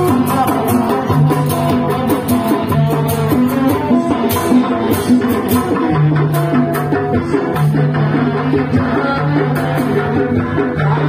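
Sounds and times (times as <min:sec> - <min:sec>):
hand drums beating: 0:00.0 - 0:11.0.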